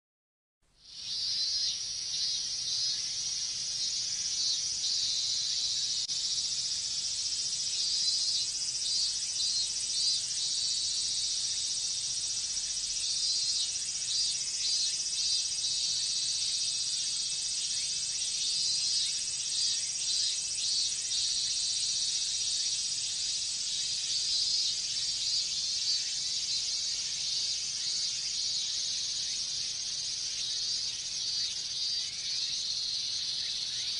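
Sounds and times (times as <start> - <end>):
cicadas shrilling: 0.8 - 33.9.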